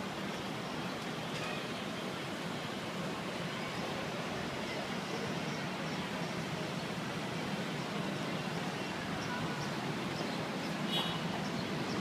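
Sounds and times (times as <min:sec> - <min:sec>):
city traffic rush: 0:00.0 - 0:12.0.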